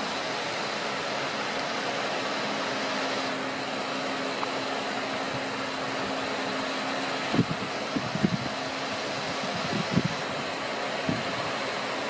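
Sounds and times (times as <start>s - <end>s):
computer cooling fans whirring: 0.0s - 12.0s.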